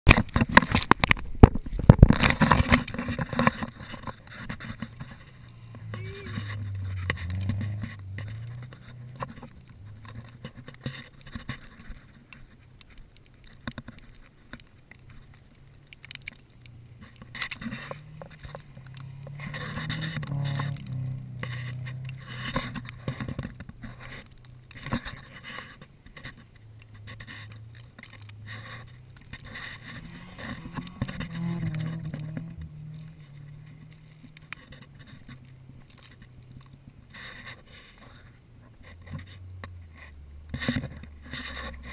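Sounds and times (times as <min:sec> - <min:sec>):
vehicle engine humming: 0:00.1 - 0:41.9.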